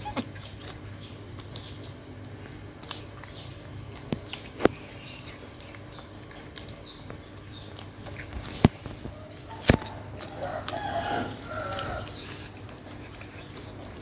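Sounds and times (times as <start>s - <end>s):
kitten chewing meat: 0.0s - 14.0s.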